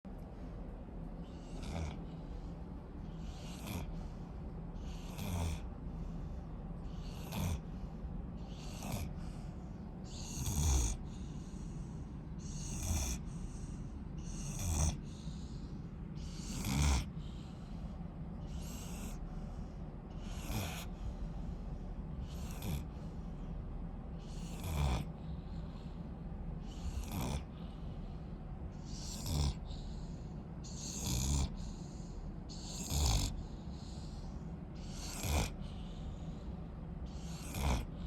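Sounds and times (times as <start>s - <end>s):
puppy snoring: 1.1s - 38.0s.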